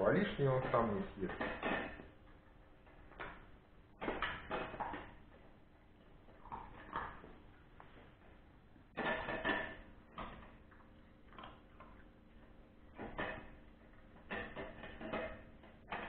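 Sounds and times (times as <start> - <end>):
dogs eating dry kibble: 0.2 - 16.0.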